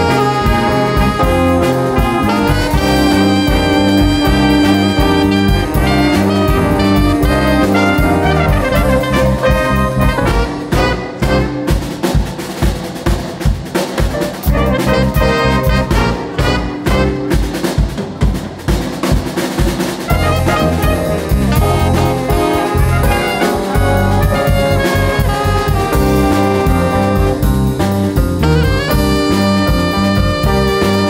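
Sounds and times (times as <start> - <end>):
brass hits: 0.0 - 17.9, 20.0 - 31.0
drum kit: 0.0 - 31.0
jazz band playing: 0.0 - 31.0.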